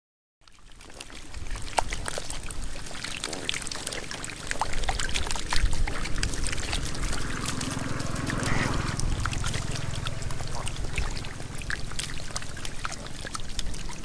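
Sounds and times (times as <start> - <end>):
fish splashing and slapping in water: 0.4 - 14.0.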